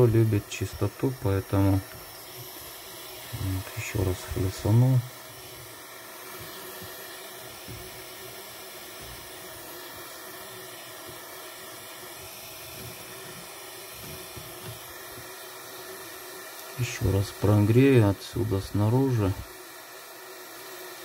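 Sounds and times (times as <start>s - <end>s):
gas torch flame hissing: 0.0s - 21.0s.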